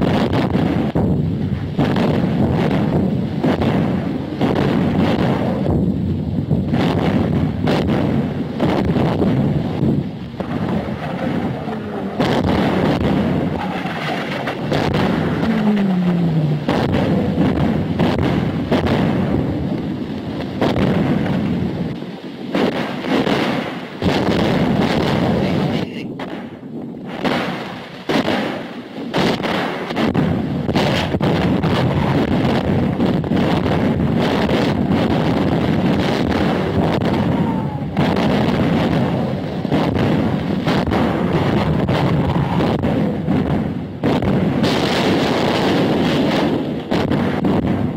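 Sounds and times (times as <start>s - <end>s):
artillery shells exploding: 0.0s - 47.9s
continuous low rumble: 0.0s - 47.9s.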